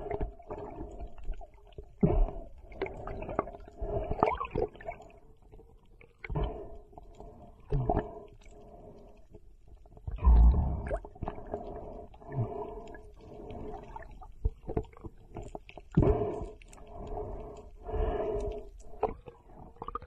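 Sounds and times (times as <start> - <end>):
muffled underwater water movement: 0.0 - 20.0.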